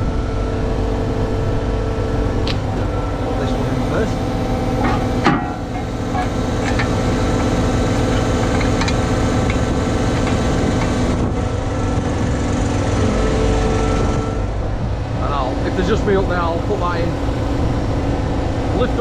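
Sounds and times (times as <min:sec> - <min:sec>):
crane engine and hydraulics humming: 0:00.0 - 0:19.0.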